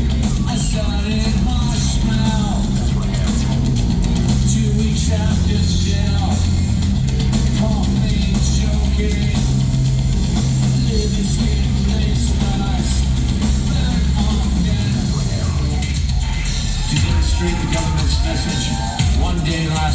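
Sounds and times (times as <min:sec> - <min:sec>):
droning synth bass: 0:00.0 - 0:19.8
distorted vocals: 0:00.0 - 0:19.9
drums: 0:00.0 - 0:19.9
live industrial music: 0:00.0 - 0:19.9.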